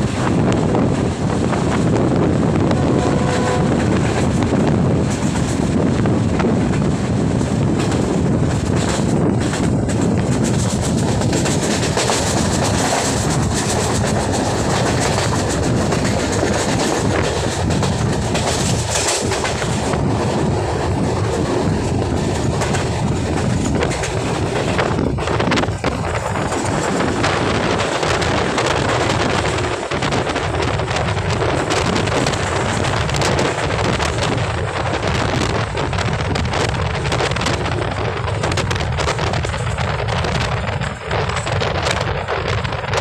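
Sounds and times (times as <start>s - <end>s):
train wheels clattering: 0.0s - 43.0s.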